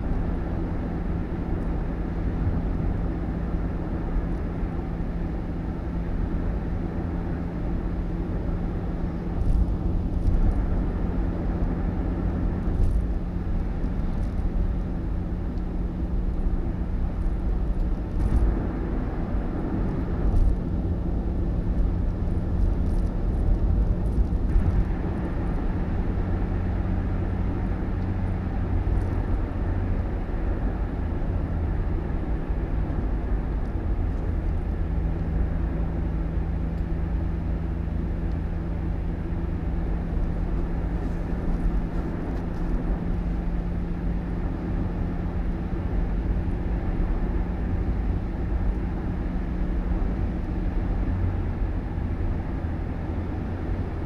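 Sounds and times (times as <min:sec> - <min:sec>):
road rumble: 0:00.0 - 0:54.0
vehicle engine hum: 0:00.0 - 0:54.0.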